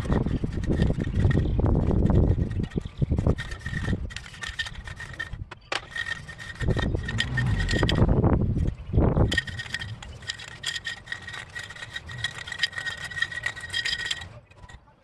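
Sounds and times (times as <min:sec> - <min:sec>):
wind buffeting microphone: 0:00.0 - 0:14.2.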